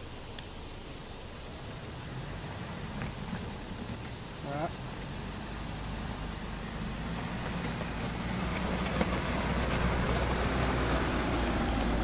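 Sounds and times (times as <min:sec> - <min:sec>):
diesel engine running: 0:01.2 - 0:12.0
tyres rolling on gravel: 0:01.4 - 0:12.0.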